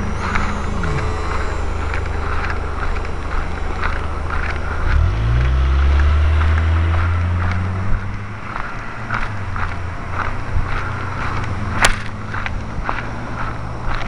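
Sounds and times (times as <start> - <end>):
vehicle engine hum: 0.0 - 14.0.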